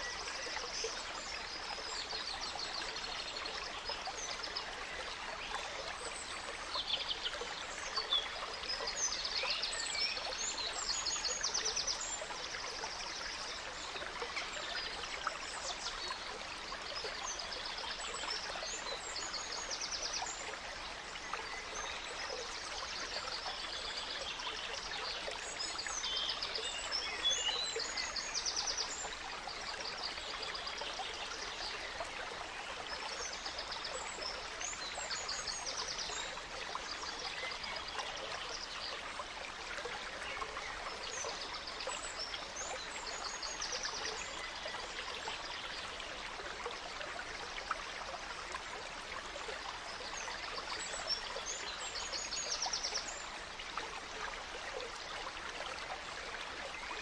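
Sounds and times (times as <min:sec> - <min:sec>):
gentle stream flowing: 0:00.0 - 0:57.0.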